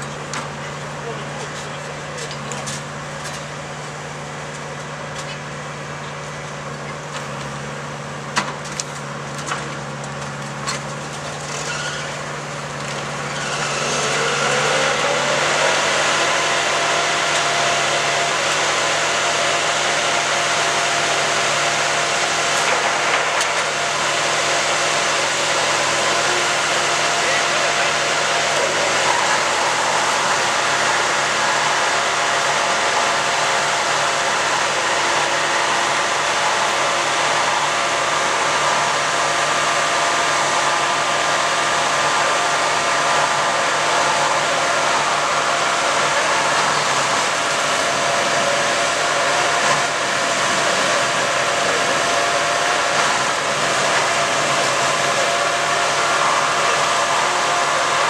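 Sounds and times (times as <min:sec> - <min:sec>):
steady mechanical drone: 0:00.0 - 0:58.0.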